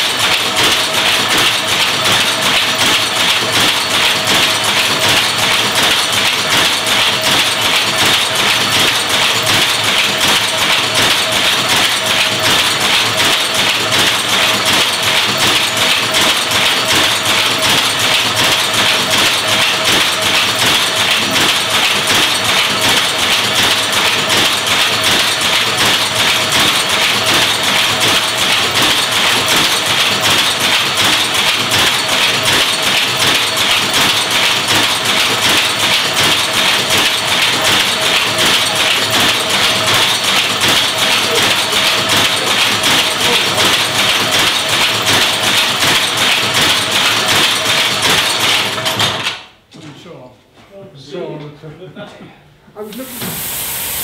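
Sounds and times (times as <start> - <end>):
power loom clattering: 0.0 - 49.5.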